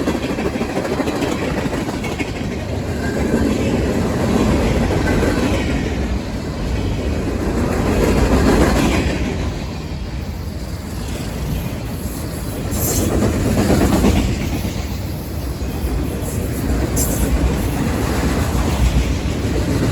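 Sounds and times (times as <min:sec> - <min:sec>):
train wheels clacking over rail joints: 0:00.0 - 0:19.9.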